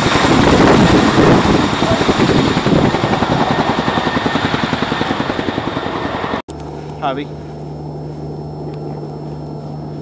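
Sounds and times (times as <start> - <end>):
helicopter rotor beating: 0.0 - 10.0.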